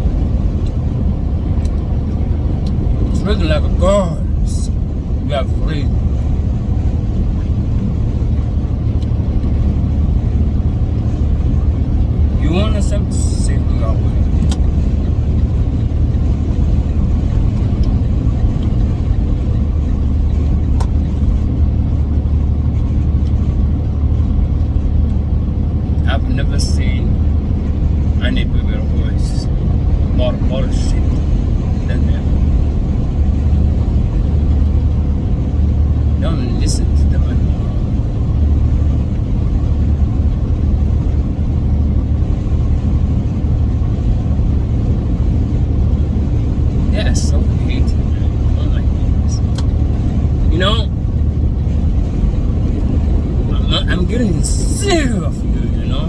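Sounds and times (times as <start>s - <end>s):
loud low rumble: 0.0s - 56.0s
vehicle engine running: 0.0s - 56.0s.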